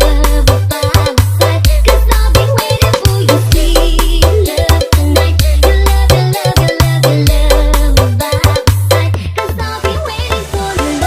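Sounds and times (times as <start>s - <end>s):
dance music with heavy bass: 0.0s - 11.0s.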